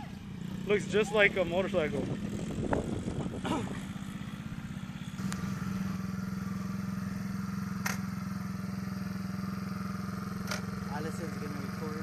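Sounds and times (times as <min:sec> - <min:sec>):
small motorcycle engine idling: 0:00.0 - 0:12.0.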